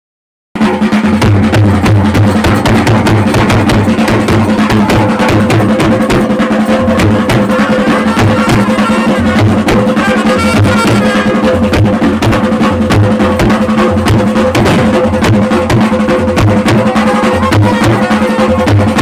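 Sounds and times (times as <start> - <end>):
fast dense drumming: 0.6 - 19.0.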